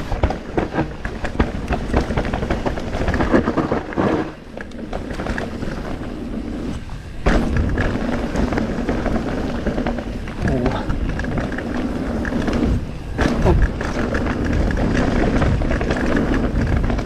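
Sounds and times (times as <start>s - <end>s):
bike chain and frame clattering: 0.0s - 17.0s
bike tyres rattling over rocks: 0.0s - 17.0s.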